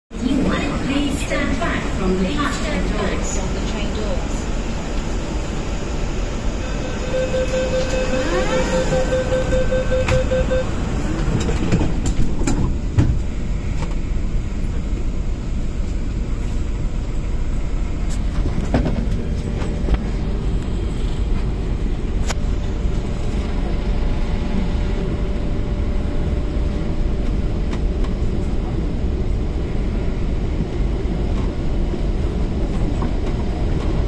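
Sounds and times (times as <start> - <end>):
low rumble of running train: 0.1 - 34.0.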